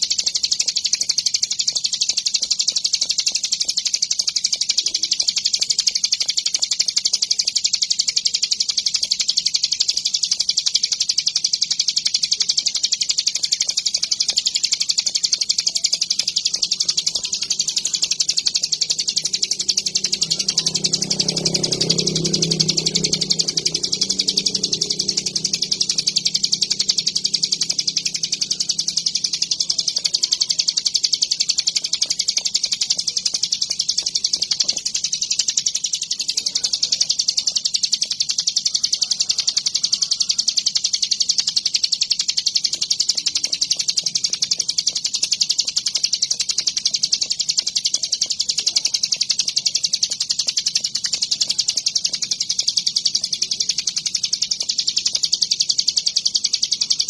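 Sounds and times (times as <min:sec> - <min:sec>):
bird rapid high chatter: 0:00.0 - 0:57.0.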